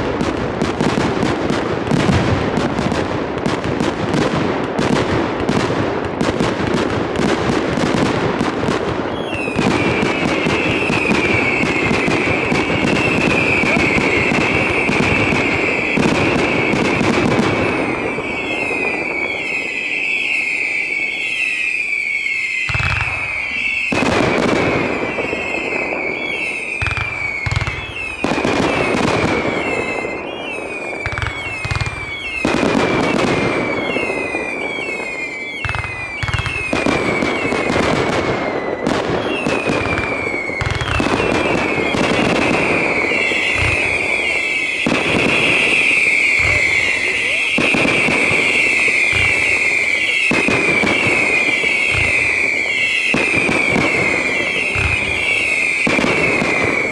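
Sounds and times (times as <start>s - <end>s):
fireworks bangs and crackling: 0.0s - 56.9s
whistling fireworks: 0.0s - 56.9s.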